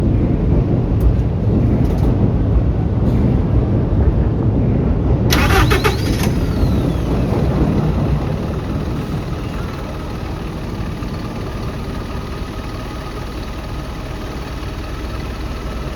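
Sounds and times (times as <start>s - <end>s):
bus diesel engine rumbling: 0.0s - 15.9s.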